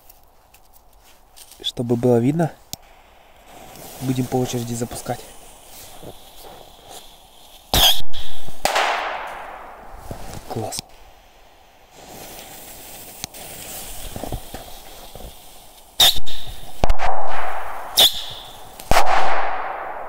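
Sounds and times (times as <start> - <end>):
firework rockets banging: 2.8 - 20.0.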